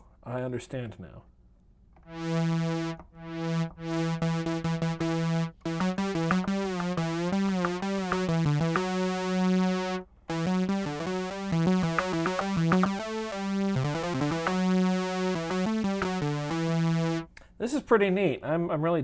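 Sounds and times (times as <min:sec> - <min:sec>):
synthesizer playing notes: 0:02.0 - 0:17.3.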